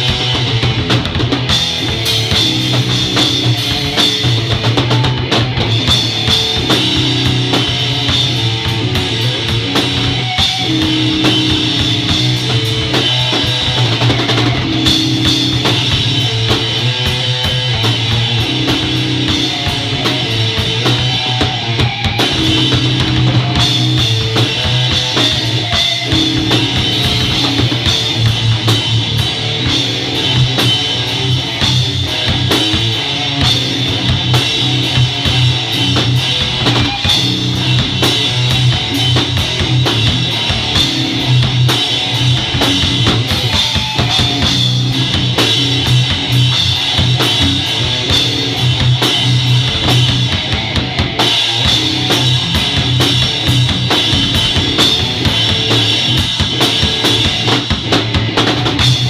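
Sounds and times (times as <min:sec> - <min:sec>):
drum kit playing loudly: 0:00.0 - 0:59.0
rock song with guitar and bass: 0:00.0 - 0:59.0.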